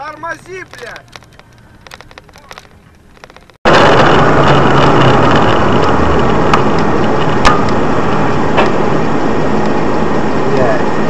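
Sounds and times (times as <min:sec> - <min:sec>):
vehicle noise on the move: 0:00.0 - 0:11.0.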